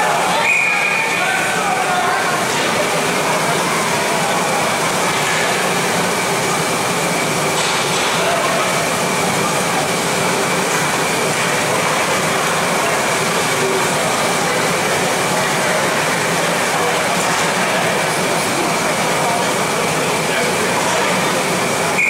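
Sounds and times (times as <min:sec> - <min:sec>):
ice rink rush: 0:00.0 - 0:22.0.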